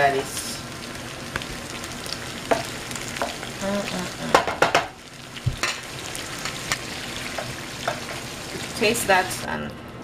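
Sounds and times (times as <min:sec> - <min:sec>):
food sizzling in oil: 0:00.0 - 0:09.5.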